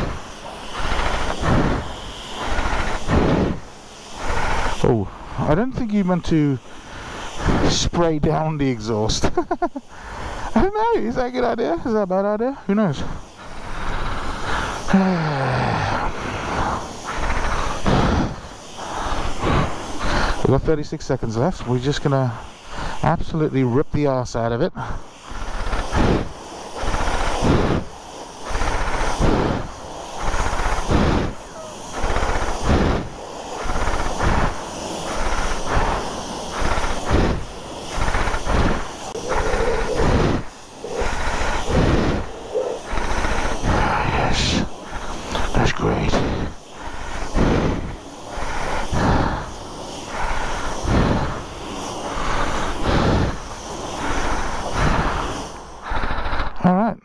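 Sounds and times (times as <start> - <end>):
water jet spraying motorcycle: 0.0 - 56.4.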